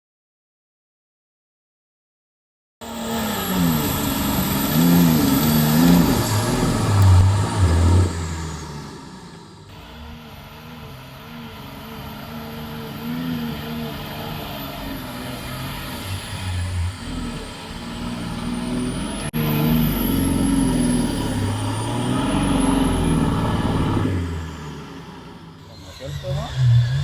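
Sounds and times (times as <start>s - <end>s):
vehicle engine revving: 2.8s - 27.0s.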